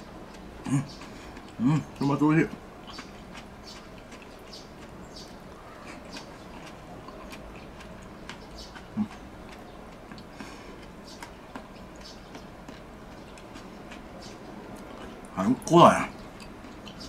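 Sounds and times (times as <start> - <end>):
person chewing food: 0.2 - 15.3, 16.2 - 17.0.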